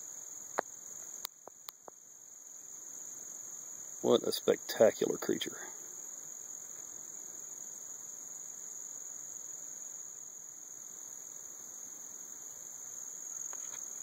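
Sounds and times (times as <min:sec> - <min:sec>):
insect chorus shrilling: 0:00.0 - 0:14.0.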